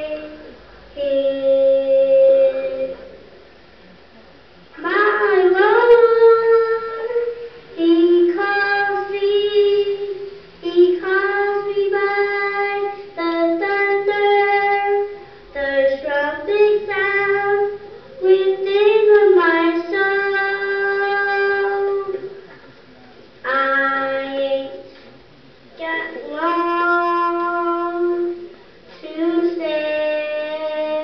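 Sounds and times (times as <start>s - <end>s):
girl singing into a microphone: 0.0s - 3.2s, 4.7s - 22.5s, 23.4s - 25.0s, 25.7s - 31.0s.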